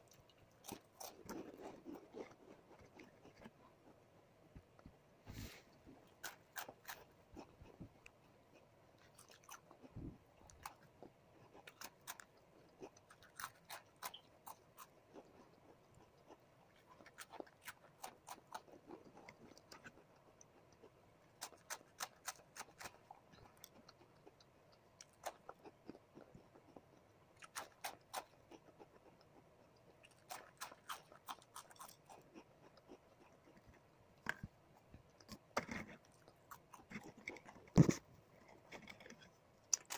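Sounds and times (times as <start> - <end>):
cracker crunching: 0.0 - 4.1, 6.0 - 39.9.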